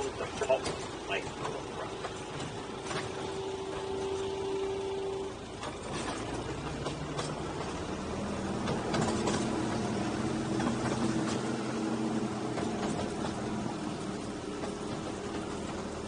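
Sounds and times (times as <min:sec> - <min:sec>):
train engine drone: 0:00.0 - 0:16.0
wheels clicking: 0:00.0 - 0:16.0.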